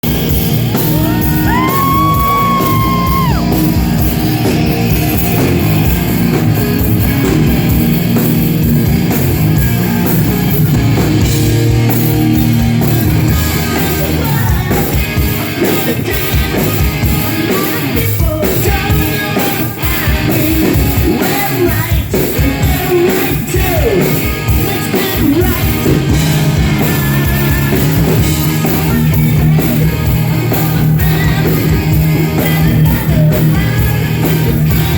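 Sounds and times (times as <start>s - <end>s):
shouted rock vocal: 0.0s - 6.5s, 12.7s - 34.9s
metal band playing live: 0.0s - 34.9s.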